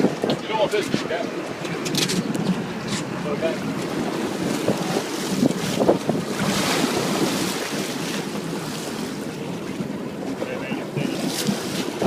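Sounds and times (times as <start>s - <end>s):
waves washing around boat: 0.0s - 12.0s
wind buffeting microphone: 0.0s - 12.0s.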